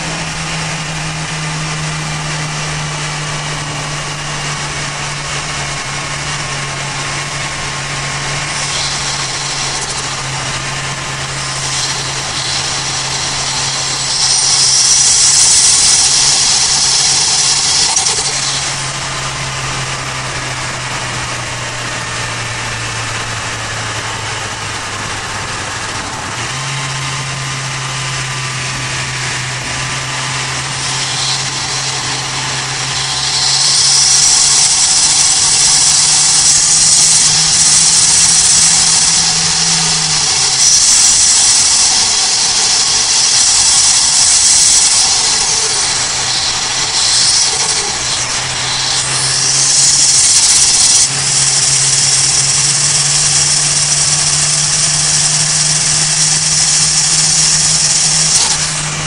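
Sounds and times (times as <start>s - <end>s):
car engine drone: 0.0s - 59.0s
high turbo whistle: 0.0s - 59.0s.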